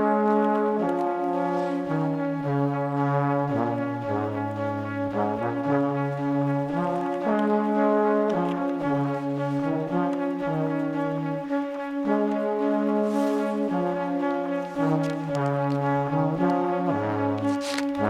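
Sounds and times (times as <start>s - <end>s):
brass instruments playing slow melody: 0.0s - 18.0s.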